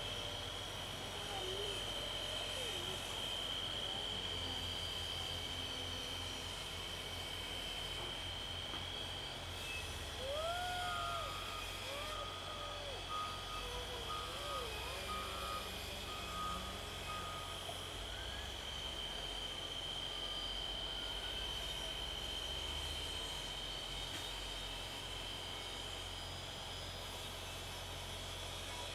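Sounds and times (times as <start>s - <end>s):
steady high-pitched tone: 0.0s - 26.0s
diesel engine low hum: 0.0s - 28.9s.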